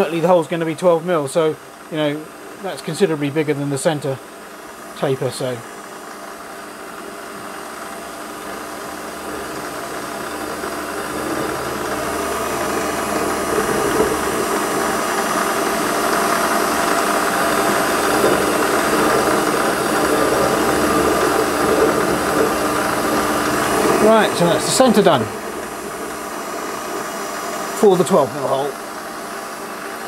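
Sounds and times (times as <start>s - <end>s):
lathe motor whine: 0.0s - 30.0s
drill cutting into metal: 3.5s - 30.0s.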